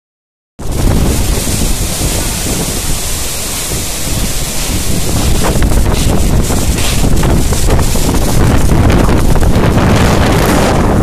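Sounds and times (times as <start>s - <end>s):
strong wind buffeting microphone: 0.6s - 11.0s.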